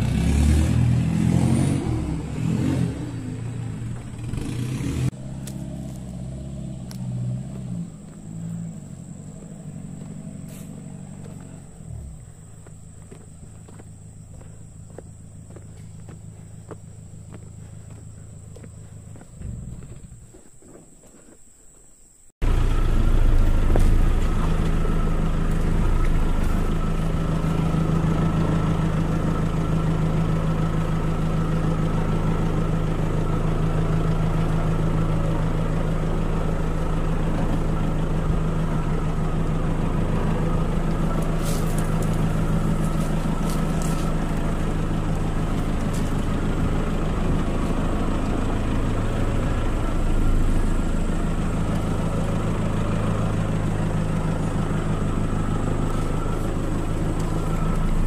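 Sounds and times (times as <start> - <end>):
pickup truck engine running: 0.0 - 20.7, 22.4 - 58.0.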